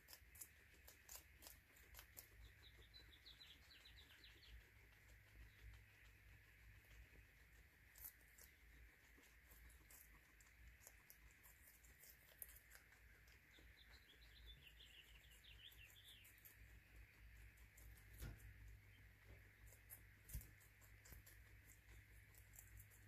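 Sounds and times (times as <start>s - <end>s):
guinea pigs chewing pellets: 0.0s - 23.0s
steady low hum: 0.0s - 23.0s.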